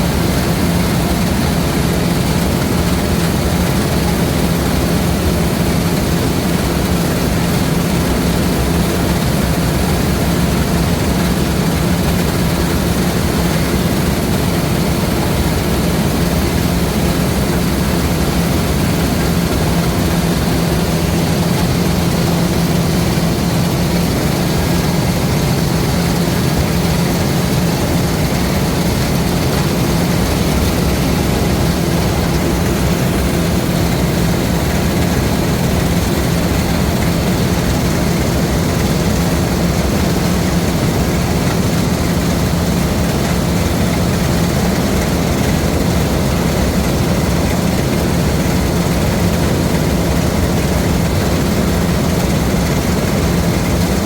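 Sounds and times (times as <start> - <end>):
combine harvester engine humming: 0.0 - 54.0.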